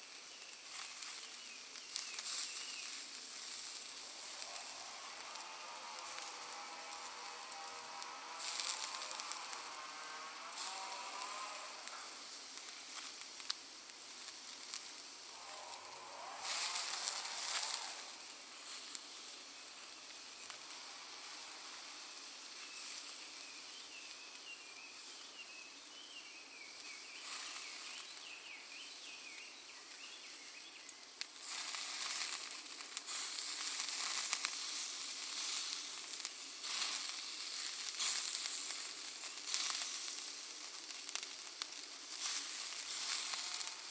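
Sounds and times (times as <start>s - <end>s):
charcoal crackling and popping: 0.0s - 43.9s
sausages sizzling: 0.0s - 43.9s.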